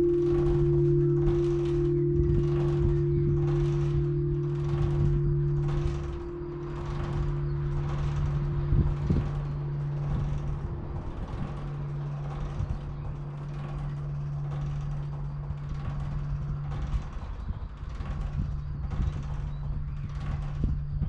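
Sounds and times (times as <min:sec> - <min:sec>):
church bell pealing: 0:00.0 - 0:17.2.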